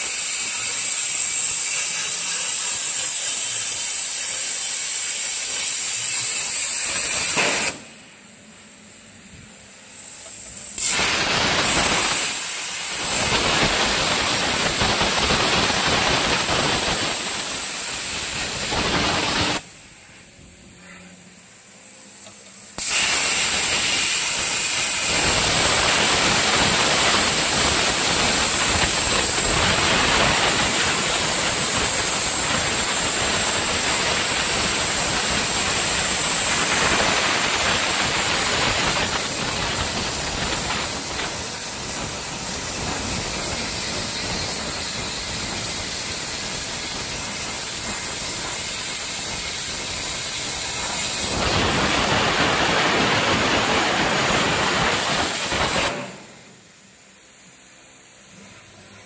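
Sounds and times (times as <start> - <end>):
plasma torch hissing: 0.0 - 8.2, 10.0 - 19.9, 22.2 - 57.3.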